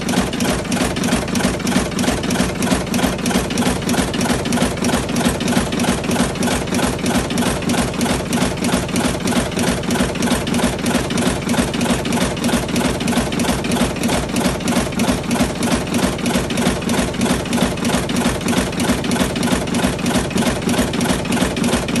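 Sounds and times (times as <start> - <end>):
steady motor hum: 0.0 - 22.0.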